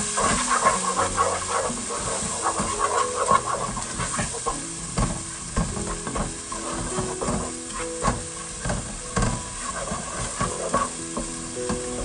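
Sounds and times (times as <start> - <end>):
masala sizzling in oil: 0.0 - 12.0
wooden spoon scraping pot: 0.0 - 12.0.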